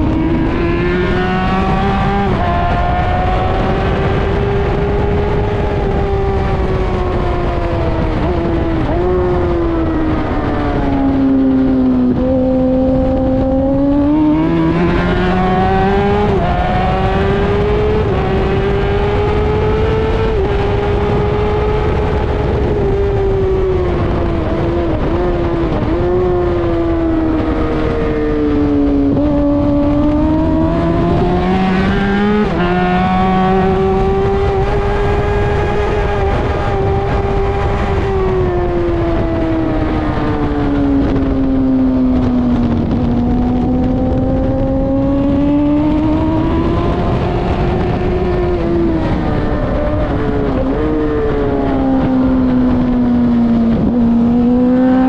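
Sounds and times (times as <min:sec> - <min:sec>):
racing engine at high revs: 0:00.0 - 0:55.0
wind and road noise: 0:00.0 - 0:55.0.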